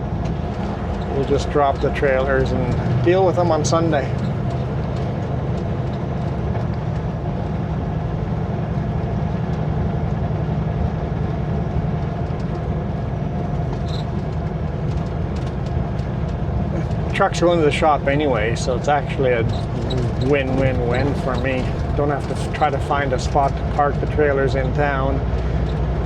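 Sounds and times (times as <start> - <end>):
road noise: 0.0 - 26.0
truck engine drone: 0.0 - 26.0.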